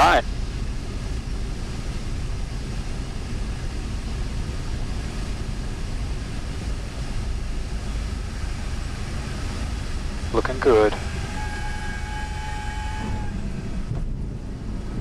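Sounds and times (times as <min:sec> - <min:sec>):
aircraft engine drone: 0:00.0 - 0:15.0
cabin airflow noise: 0:00.0 - 0:15.0.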